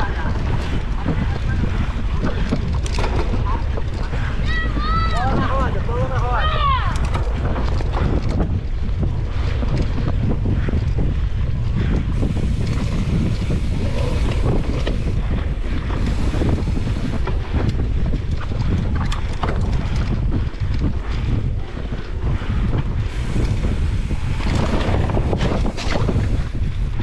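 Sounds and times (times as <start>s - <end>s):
bike rattling on rough ground: 0.0s - 27.0s
wind buffeting microphone: 0.0s - 27.0s.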